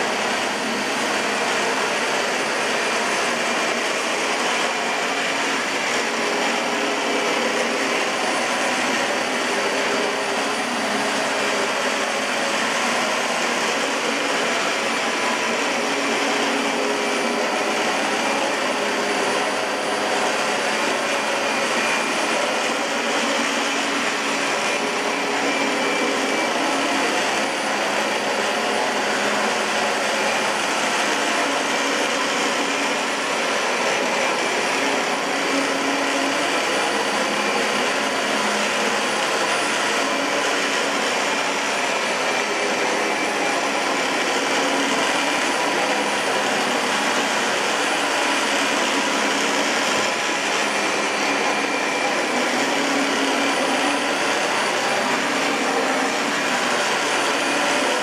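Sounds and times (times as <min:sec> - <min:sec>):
vacuum cleaner running on carpet: 0:00.0 - 0:58.0.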